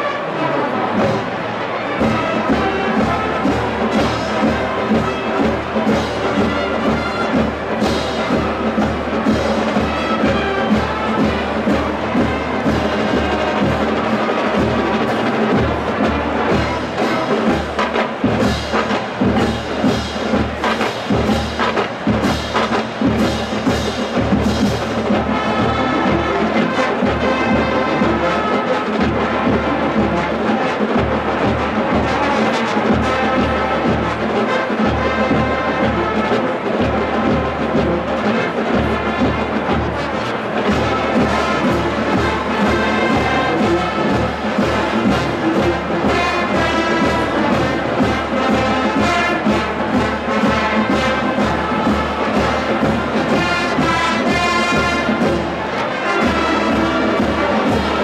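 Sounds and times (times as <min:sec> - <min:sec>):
brass playing march tune: 0:00.0 - 0:58.0
steady drum beat: 0:02.0 - 0:58.0.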